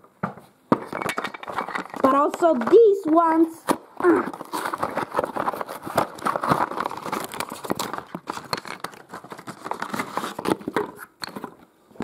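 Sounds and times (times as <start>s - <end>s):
wooden track pieces clacking: 0.7s - 11.6s
cardboard packaging crinkling: 1.2s - 11.6s.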